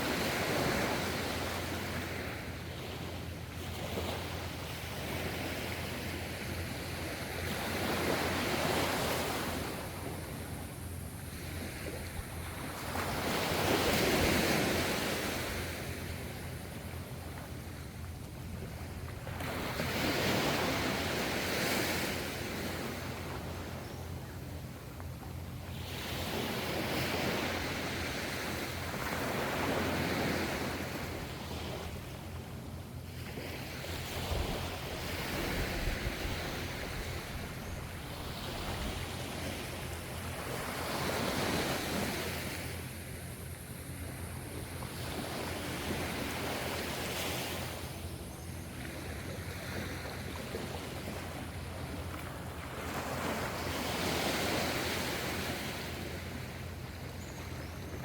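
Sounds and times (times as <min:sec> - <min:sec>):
ocean waves breaking: 0:00.0 - 0:57.1
low rumble of surf: 0:00.0 - 0:58.0.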